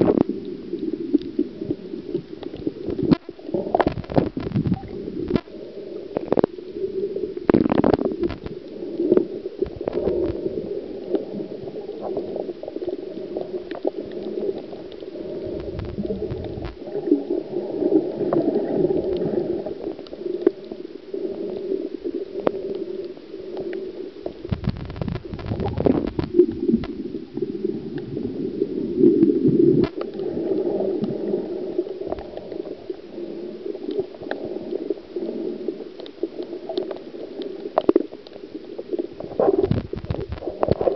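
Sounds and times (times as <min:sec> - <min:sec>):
underwater gurgling and bubbling: 0:00.0 - 0:40.9.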